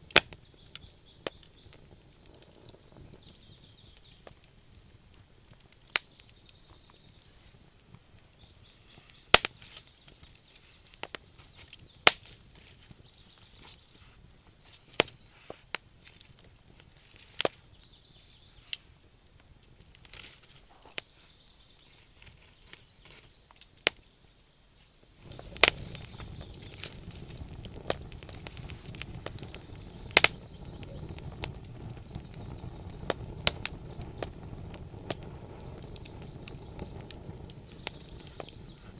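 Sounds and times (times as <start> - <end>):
low rush of flames: 0.0 - 23.2, 25.2 - 38.9
wood fire crackling and popping: 0.0 - 24.6, 25.2 - 38.9.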